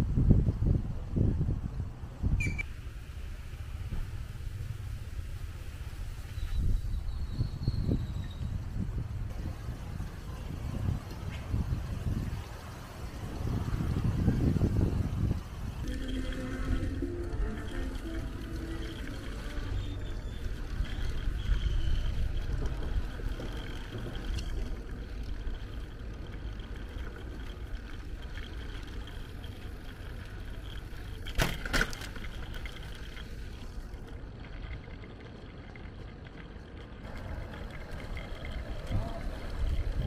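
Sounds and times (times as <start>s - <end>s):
wind buffeting microphone: 0.0s - 2.6s, 3.5s - 31.3s, 36.3s - 40.0s
bicycle tyres rumbling on street: 0.0s - 40.0s.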